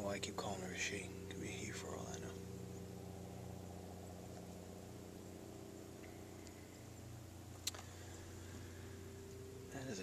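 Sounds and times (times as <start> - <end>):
small motor humming: 0.0 - 10.0.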